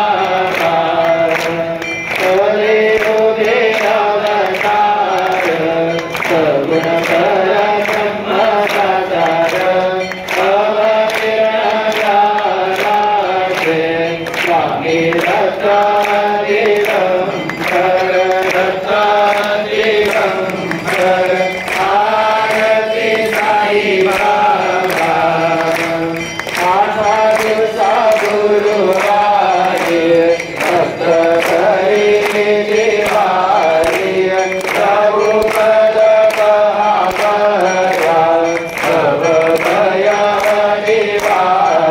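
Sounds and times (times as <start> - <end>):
group singing a chant: 0.0 - 41.9
sharp rhythmic strikes: 0.0 - 41.9.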